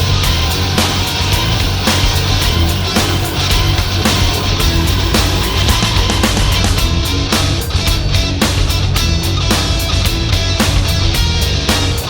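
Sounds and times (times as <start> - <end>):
heavy rock music: 0.0 - 12.0.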